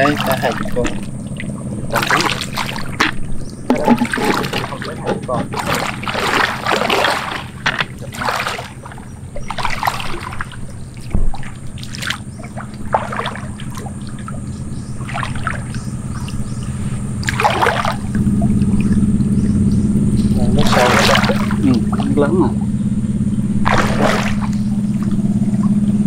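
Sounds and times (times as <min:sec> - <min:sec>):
water splashing and trickling: 0:00.0 - 0:22.7, 0:23.5 - 0:26.0
small boat engine running: 0:00.0 - 0:26.0.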